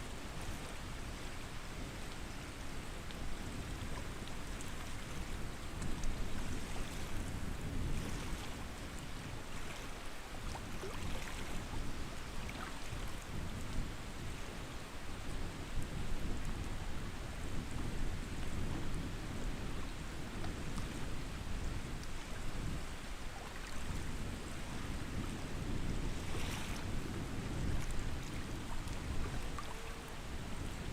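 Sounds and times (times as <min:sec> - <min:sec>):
small waves lapping: 0:00.0 - 0:14.6, 0:20.4 - 0:30.9.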